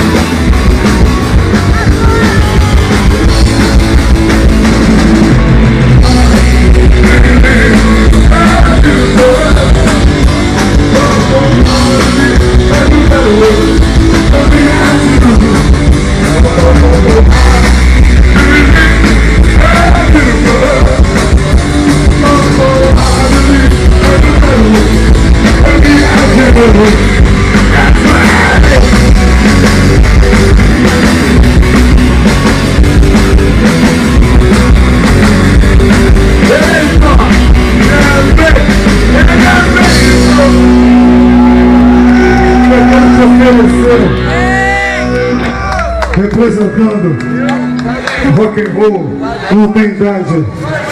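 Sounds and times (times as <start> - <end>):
rock band playing live: 0.0 - 49.5.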